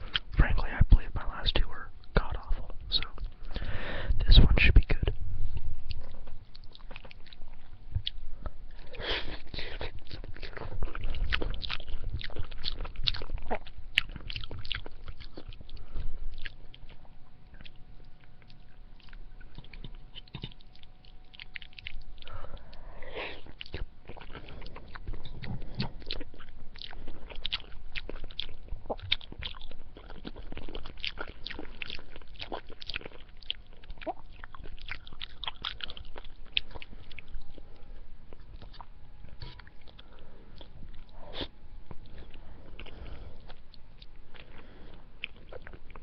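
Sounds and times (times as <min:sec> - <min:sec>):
chewing spaghetti: 0:00.0 - 0:00.4, 0:05.5 - 0:46.0.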